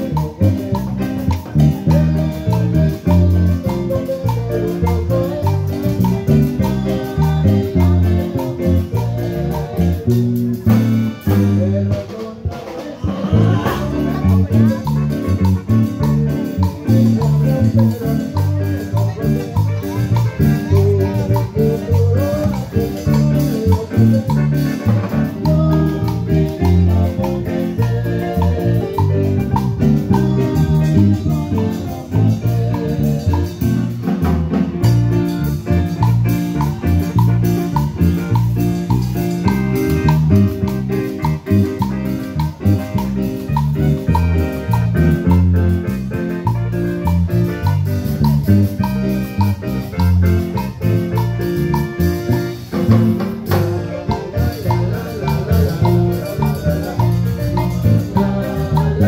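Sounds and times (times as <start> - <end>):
electronic keyboard: 0.0 - 59.0
latin dance band music: 0.0 - 59.0.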